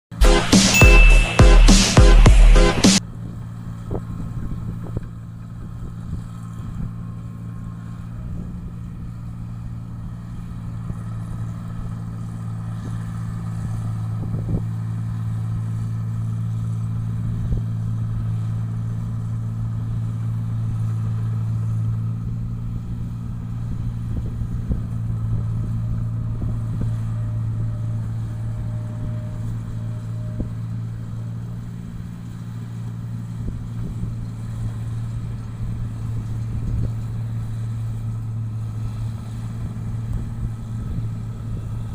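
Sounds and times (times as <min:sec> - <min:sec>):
machine engine droning: 0:00.2 - 0:41.9.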